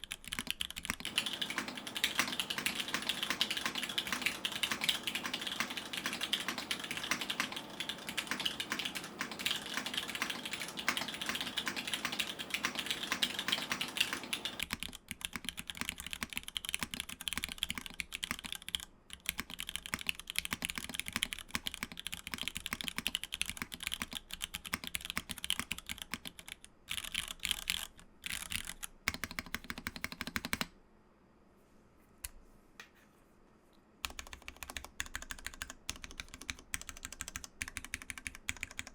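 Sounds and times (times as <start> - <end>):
mechanical keyboard typing: 0.0 - 30.7, 34.0 - 38.9.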